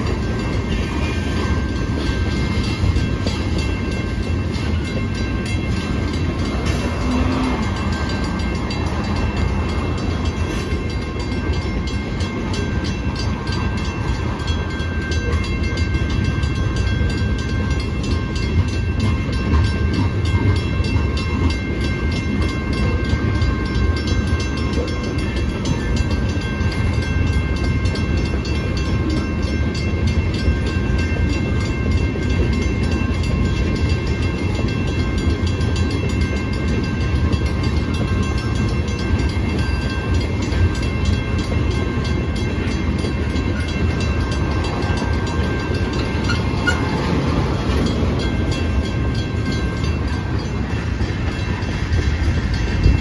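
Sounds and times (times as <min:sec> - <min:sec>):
crossing bell ringing: 0:00.0 - 0:53.0
freight train rumbling: 0:00.0 - 0:53.0.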